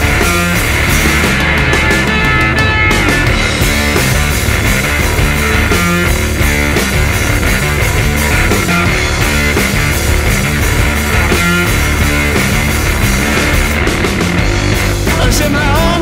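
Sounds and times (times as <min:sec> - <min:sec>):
rock band playing heavy riff: 0:00.0 - 0:16.0.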